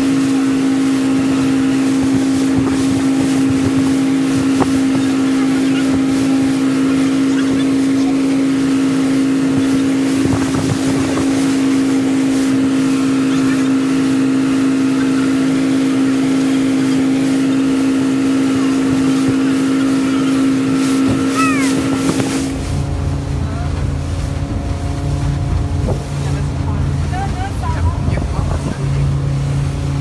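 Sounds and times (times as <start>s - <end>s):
motorboat engine droning: 0.0s - 30.0s.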